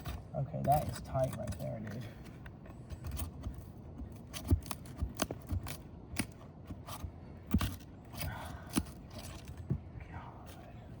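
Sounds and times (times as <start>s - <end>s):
shingle scraping and crackling: 0.0s - 9.9s.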